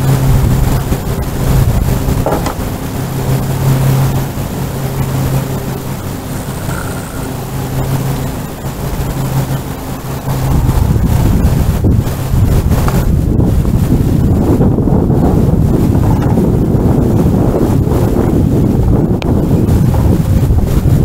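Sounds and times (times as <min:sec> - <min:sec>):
motor humming: 0:00.0 - 0:20.4
wind rumbling on microphone: 0:00.0 - 0:21.0.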